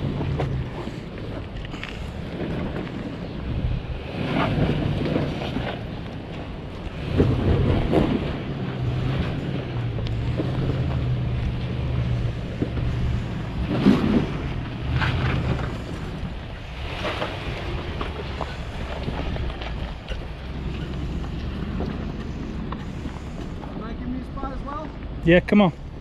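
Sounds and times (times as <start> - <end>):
wind buffeting microphone: 0.0 - 25.2
engine pulling under load: 0.0 - 26.0.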